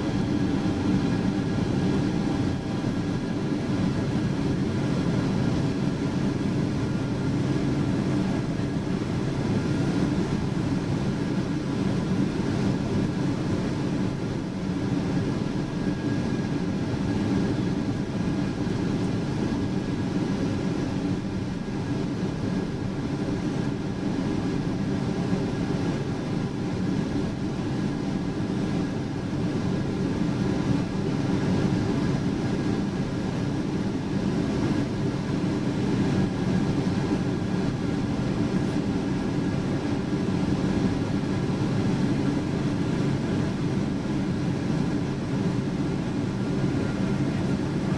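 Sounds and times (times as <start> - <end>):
airliner cabin engine rumble: 0.0 - 47.9
faint steady whine: 0.0 - 47.9.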